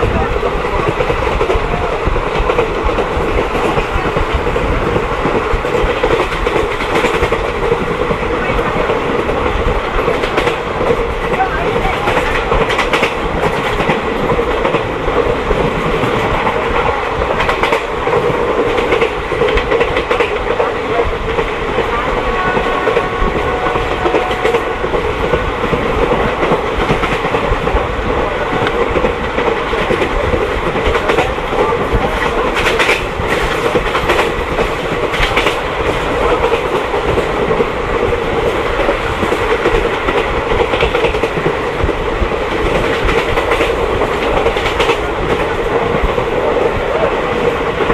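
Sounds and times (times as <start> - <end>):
rail clicks: 0.0 - 47.9
train wheels rumbling: 0.0 - 47.9.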